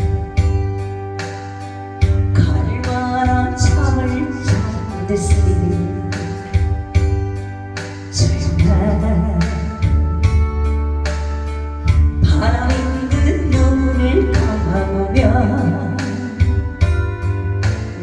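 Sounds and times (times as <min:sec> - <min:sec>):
karaoke backing track: 0:00.0 - 0:18.0
woman singing a ballad: 0:02.2 - 0:18.0.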